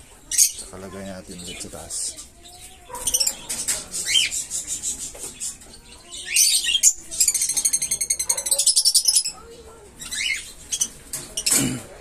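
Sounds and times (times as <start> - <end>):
small parrots chirping: 0.3 - 11.6.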